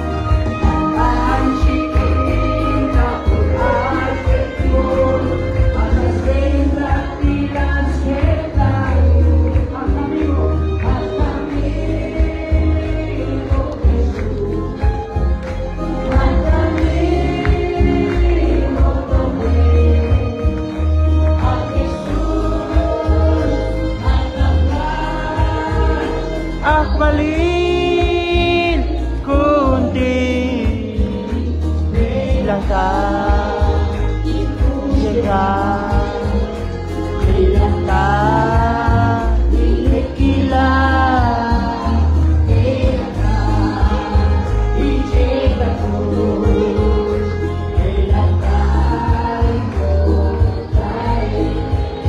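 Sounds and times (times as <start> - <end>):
hand-clapping: 0.0 - 26.2, 26.8 - 52.0
congregation singing: 0.0 - 52.0.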